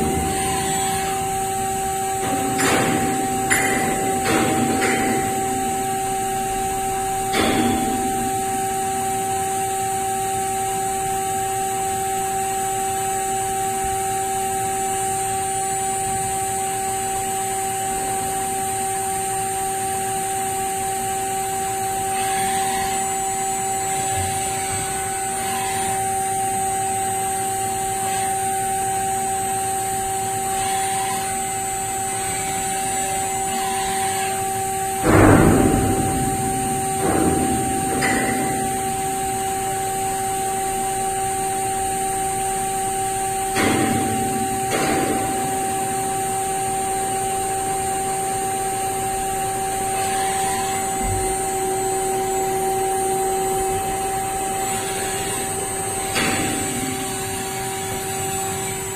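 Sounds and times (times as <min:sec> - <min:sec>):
machine whining hum: 0:00.0 - 0:58.9.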